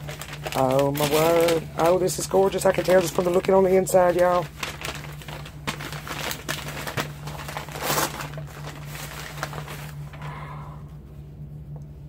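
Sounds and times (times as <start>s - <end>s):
packaging rustling and crinkling: 0.0s - 10.4s
steady low hum: 0.0s - 12.0s.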